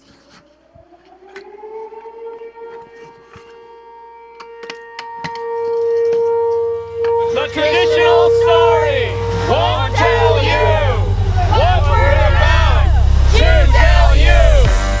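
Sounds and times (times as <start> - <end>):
siren-like tone: 0.0 - 15.0.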